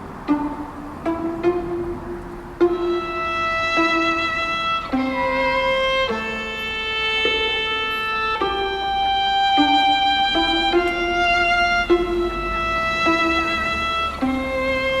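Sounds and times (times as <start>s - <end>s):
held string notes: 0.0s - 15.0s.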